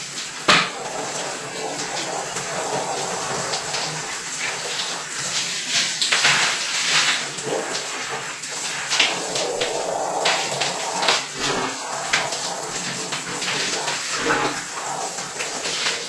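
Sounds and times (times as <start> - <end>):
water churning in a tub: 0.0 - 16.0.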